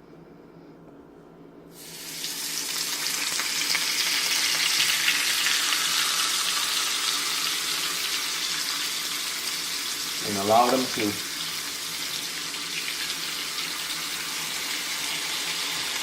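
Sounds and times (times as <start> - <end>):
chicken sizzling in a frying pan: 1.7 - 16.0.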